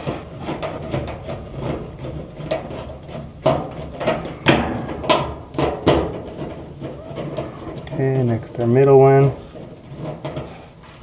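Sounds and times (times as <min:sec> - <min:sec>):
metal clicks and knocks: 0:00.0 - 0:11.0.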